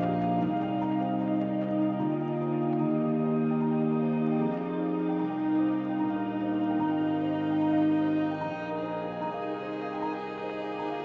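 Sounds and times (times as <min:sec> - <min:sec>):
ambient music with sustained chords: 0:00.0 - 0:11.0.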